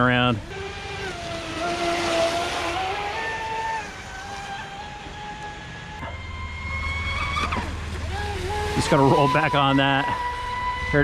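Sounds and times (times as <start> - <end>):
electric motor and propeller whining: 0.0 - 11.0.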